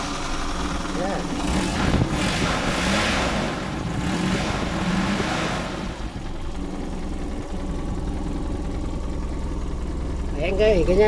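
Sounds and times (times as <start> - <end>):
petrol engine running: 0.0 - 11.0.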